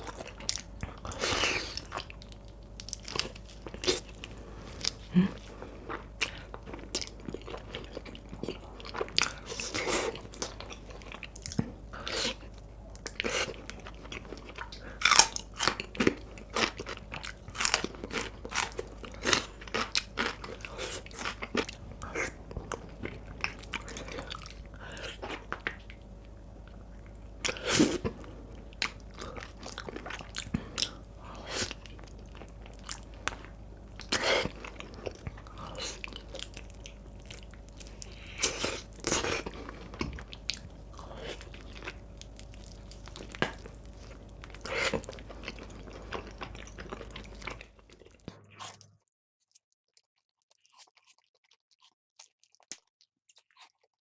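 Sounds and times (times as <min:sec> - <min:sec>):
crunchy biting and chewing: 0:00.0 - 0:47.6, 0:48.3 - 0:54.0
steady low hum: 0:00.0 - 0:49.0.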